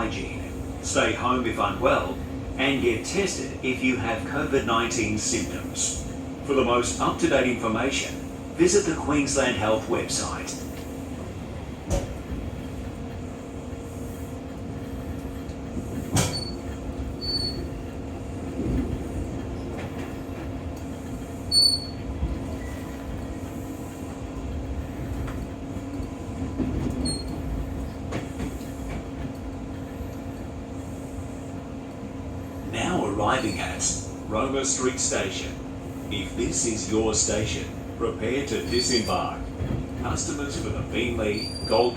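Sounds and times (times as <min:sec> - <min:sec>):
train hum with wheel rumble: 0:00.0 - 0:41.9.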